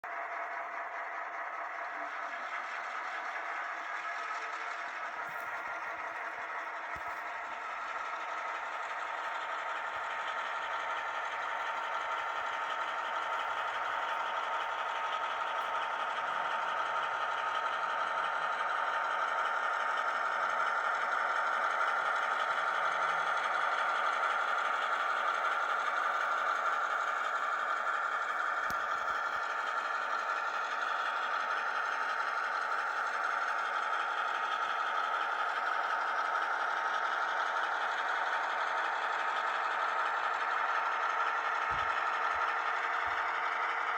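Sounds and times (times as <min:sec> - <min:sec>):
wheels rattling on track: 0:00.0 - 0:43.9
model train motor hum: 0:00.1 - 0:43.9.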